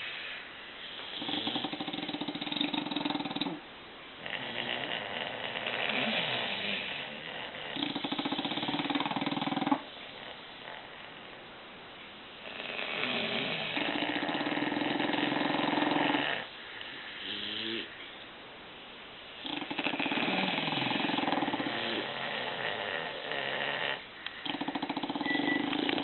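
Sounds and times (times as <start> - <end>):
dog snoring: 0.0 - 3.6, 4.2 - 11.4, 12.4 - 18.0, 19.4 - 26.0.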